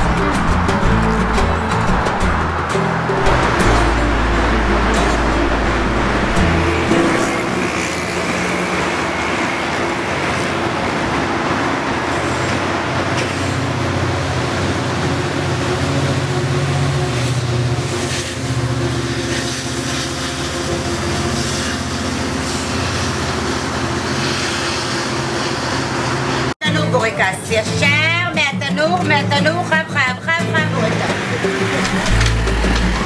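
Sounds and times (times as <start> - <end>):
train locomotive engine humming: 0.0 - 26.5, 30.6 - 33.0
heavy highway traffic: 0.0 - 26.6, 30.4 - 33.0.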